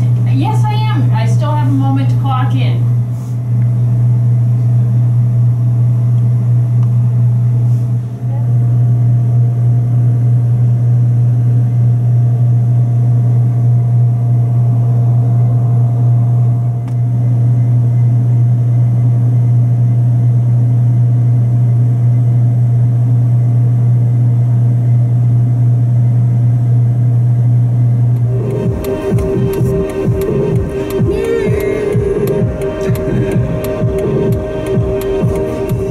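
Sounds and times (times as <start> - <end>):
low mechanical drone: 0.0 - 35.9.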